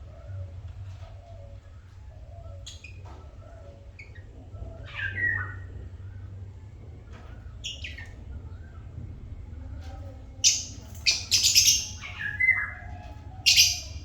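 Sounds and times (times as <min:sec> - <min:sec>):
lovebirds squawking and chirping: 0:00.3 - 0:06.1, 0:07.1 - 0:08.9, 0:10.3 - 0:14.0.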